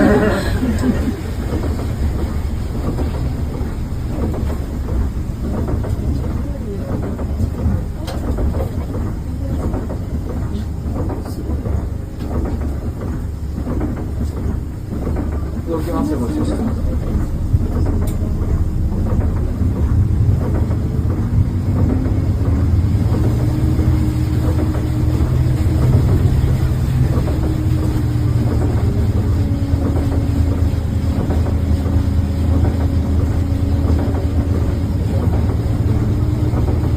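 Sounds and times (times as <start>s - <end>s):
bus engine drone with whine: 0.0s - 36.9s.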